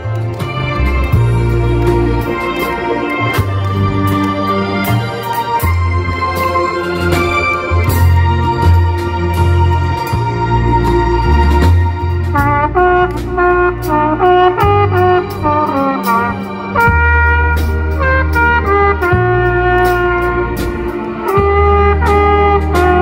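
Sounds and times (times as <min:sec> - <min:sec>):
bass line: 0:00.0 - 0:23.0
drum kit with cymbals: 0:00.0 - 0:23.0
trumpet melody: 0:00.0 - 0:23.0.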